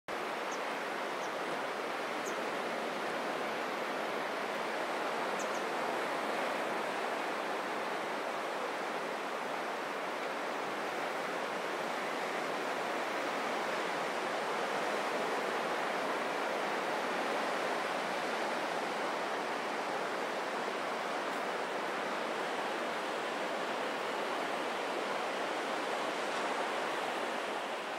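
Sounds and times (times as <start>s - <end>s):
ocean waves roaring: 0.1s - 27.9s.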